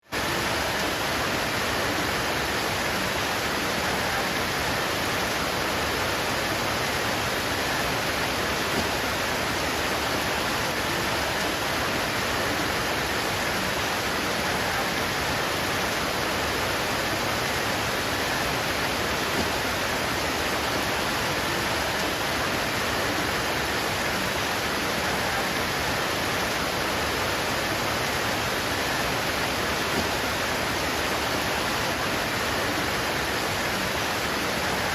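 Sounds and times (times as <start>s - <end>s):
heavy rain on leaves: 0.0s - 34.9s.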